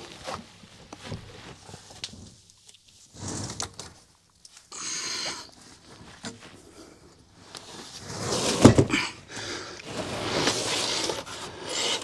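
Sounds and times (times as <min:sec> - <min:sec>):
scrapes: 0:00.1 - 0:04.1, 0:05.6 - 0:12.0.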